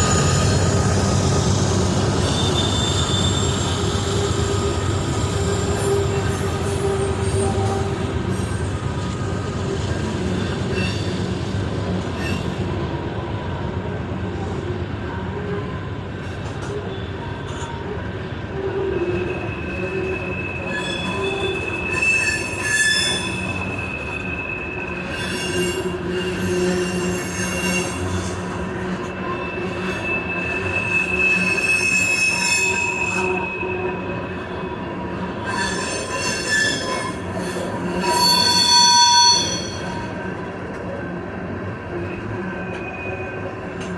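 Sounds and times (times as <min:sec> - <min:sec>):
steel wheels squealing: 0:00.0 - 0:11.5, 0:12.1 - 0:12.7, 0:18.6 - 0:40.5, 0:41.9 - 0:43.9
train rolling low rumble: 0:00.0 - 0:43.9.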